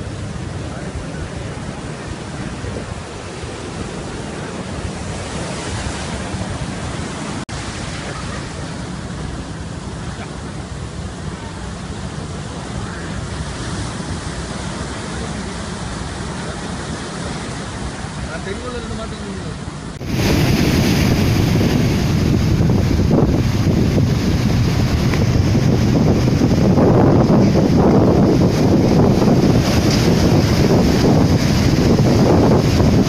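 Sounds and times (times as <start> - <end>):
storm surf breaking on shore: 0.0 - 33.0
wind: 0.0 - 33.0.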